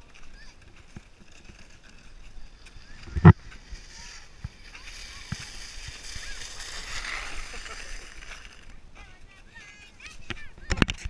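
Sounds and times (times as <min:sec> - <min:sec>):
sled scraping over snow: 0:00.0 - 0:11.0.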